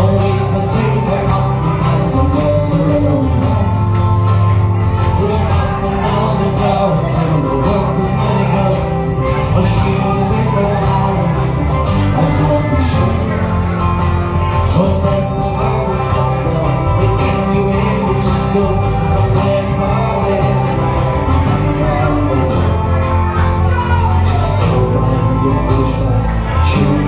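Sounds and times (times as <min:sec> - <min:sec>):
electric bass: 0:00.0 - 0:27.0
electric guitar: 0:00.0 - 0:27.0
strummed acoustic guitar: 0:00.0 - 0:27.0.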